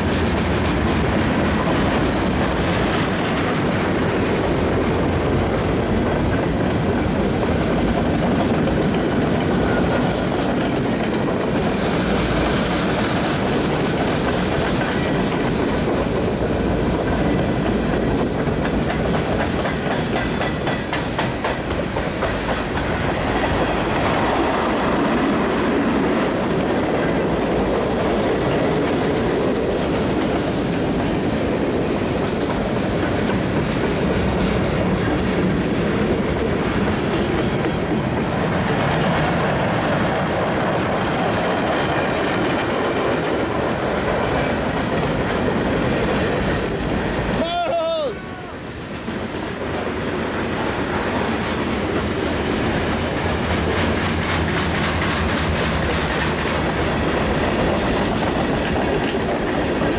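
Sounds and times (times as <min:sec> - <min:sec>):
steel wheels clattering over rails: 0:00.0 - 0:48.1, 0:48.8 - 0:59.9
train rumble: 0:00.0 - 0:59.9.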